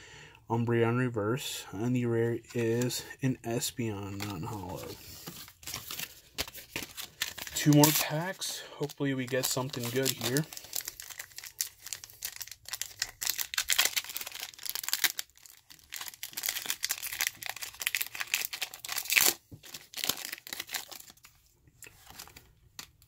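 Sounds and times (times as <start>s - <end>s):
foil wrapper crinkling and tearing: 4.1s - 23.0s.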